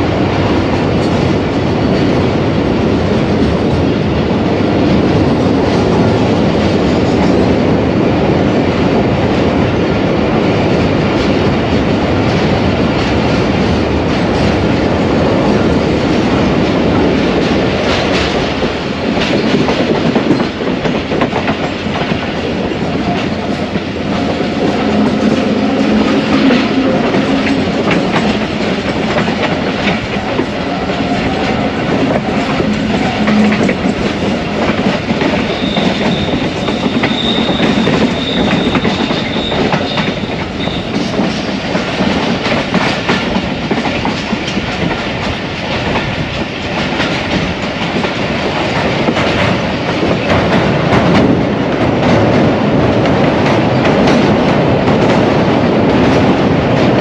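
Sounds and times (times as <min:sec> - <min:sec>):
train rumble: 0:00.0 - 0:57.0
train wheels clacking over rail joints: 0:00.0 - 0:57.0.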